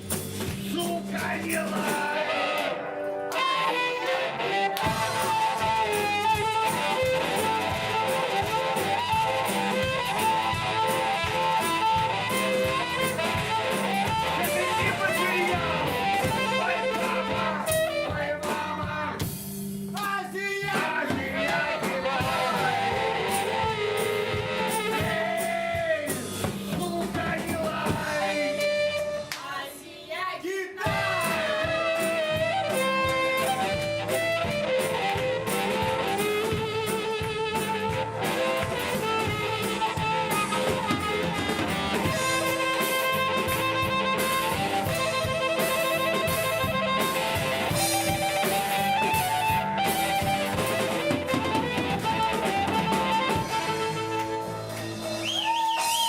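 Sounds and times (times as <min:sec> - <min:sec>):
live blues-rock band: 0:00.0 - 0:29.6, 0:30.8 - 0:56.0
bending guitar melody: 0:01.4 - 0:19.6, 0:20.8 - 0:29.4, 0:30.9 - 0:55.9.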